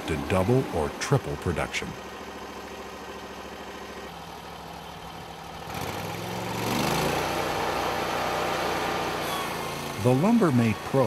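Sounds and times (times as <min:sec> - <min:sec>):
gas engine idling and revving: 0:00.0 - 0:11.0.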